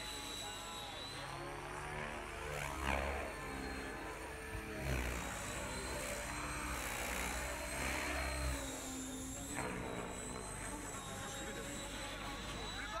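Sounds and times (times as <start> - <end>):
helicopter rotor buzz and whoosh: 0.0 - 13.0
high motor whine: 0.0 - 13.0.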